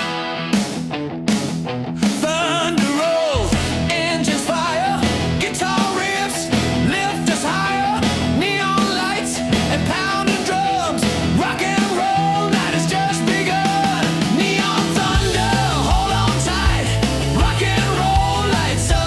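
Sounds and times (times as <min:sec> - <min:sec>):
rock band with guitars and drums: 0:00.0 - 0:19.0
sliding lead guitar line: 0:00.0 - 0:19.0.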